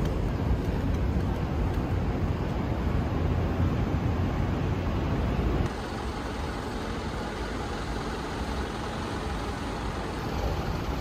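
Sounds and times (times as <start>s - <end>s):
traffic engines rumbling: 0.0s - 11.0s.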